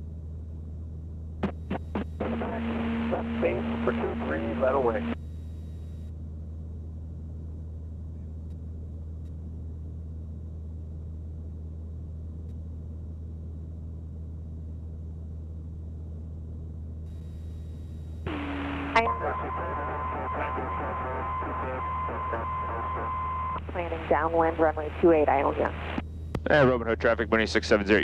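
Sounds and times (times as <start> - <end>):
airplane engine and propeller drone: 0.0 - 28.0.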